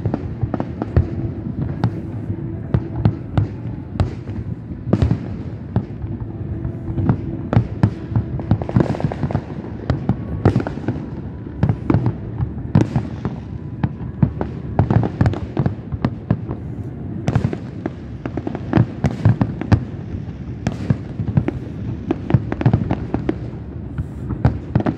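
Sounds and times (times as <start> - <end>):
fireworks bangs: 0.0 - 24.9.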